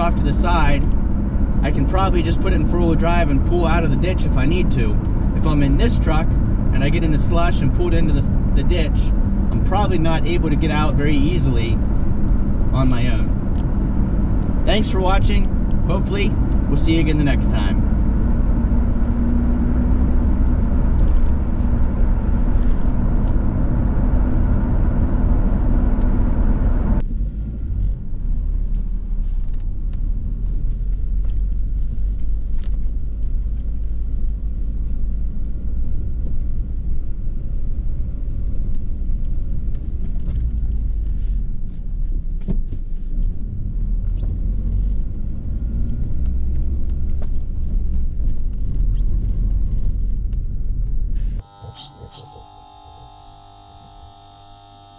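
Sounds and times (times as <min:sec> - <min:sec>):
engine and road rumble: 0:00.0 - 0:54.9.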